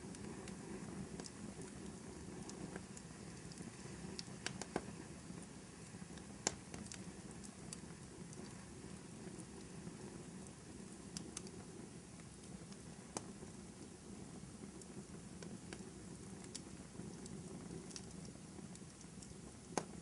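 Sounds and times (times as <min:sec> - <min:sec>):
fire pops and snaps: 0:00.0 - 0:20.0
low rumble of flames: 0:00.0 - 0:20.0.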